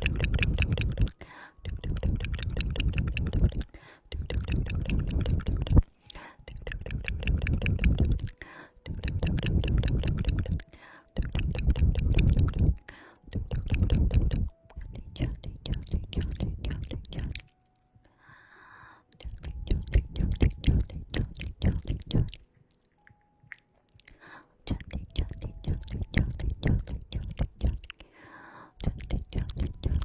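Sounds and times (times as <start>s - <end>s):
wet mouth clicking and smacking: 0.0s - 17.8s, 19.1s - 28.1s, 28.8s - 30.0s.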